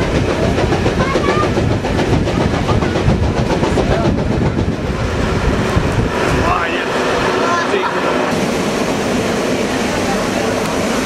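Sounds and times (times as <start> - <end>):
train rumbling on rails: 0.0 - 11.0
wheels rattling over track: 0.0 - 11.0.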